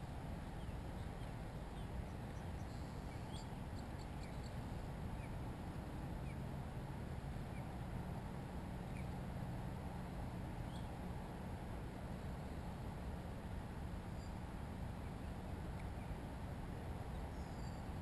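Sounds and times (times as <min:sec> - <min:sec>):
low outdoor background noise: 0:00.0 - 0:18.0.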